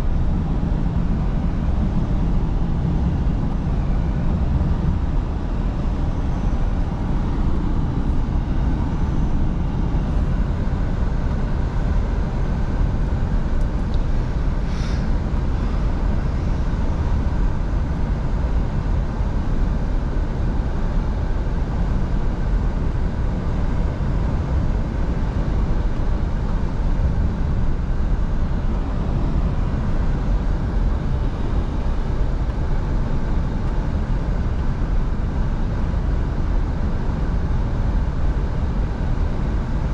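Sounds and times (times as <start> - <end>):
road and wind noise: 0.0 - 39.9
truck engine drone: 0.0 - 39.9.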